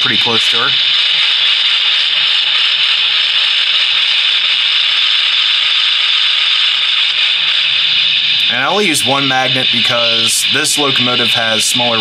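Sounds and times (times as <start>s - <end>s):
loud speaker hiss: 0.0s - 6.1s, 6.9s - 12.0s.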